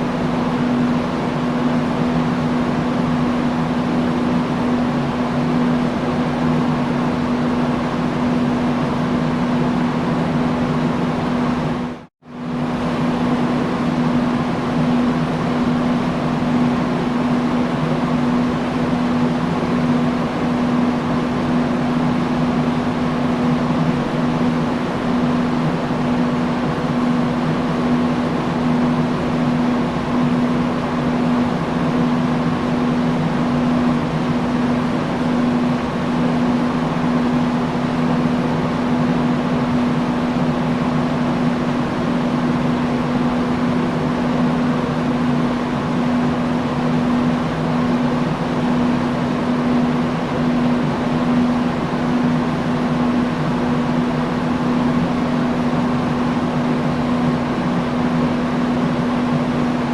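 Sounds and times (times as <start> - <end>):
fan air rushing: 0.0 - 59.9
low motor hum: 0.0 - 59.9.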